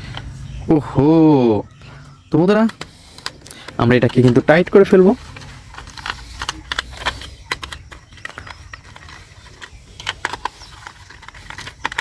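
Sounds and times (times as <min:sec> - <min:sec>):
plastic parts handled: 0:01.9 - 0:12.0.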